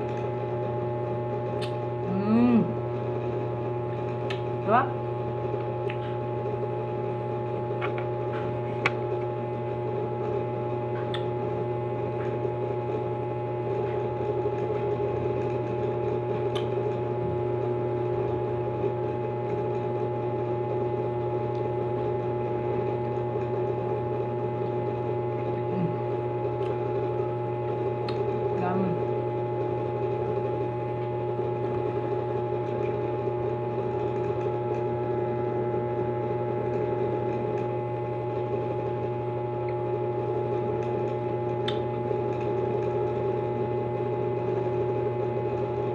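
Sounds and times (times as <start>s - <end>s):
machine hum: 0.0s - 45.9s.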